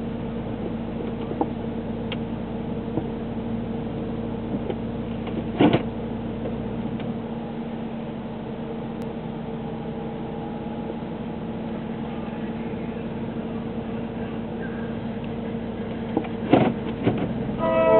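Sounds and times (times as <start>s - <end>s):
diesel locomotive hum and rumble: 0.0s - 17.9s.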